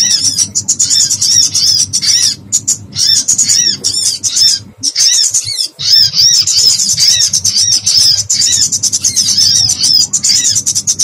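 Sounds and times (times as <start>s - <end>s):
bird distress chirps: 0.0s - 11.0s
steady low hum: 0.0s - 11.0s.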